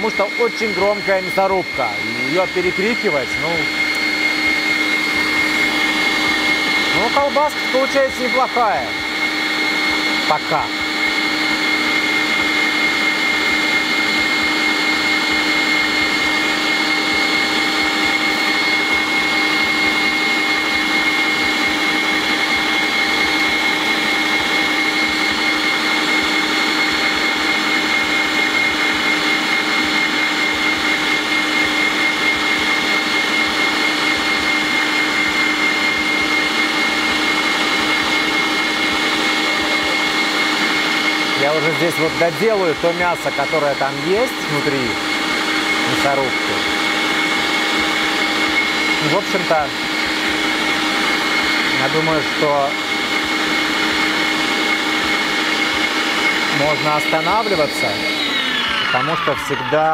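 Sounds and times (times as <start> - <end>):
electric meat grinder motor whine: 0.0 - 59.9.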